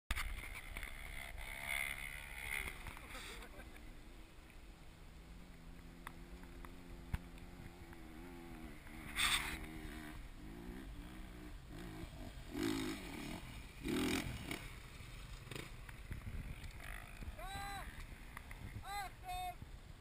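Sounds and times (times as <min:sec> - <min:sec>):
motorcycle engine revving: 0:00.1 - 0:03.8, 0:04.8 - 0:18.8.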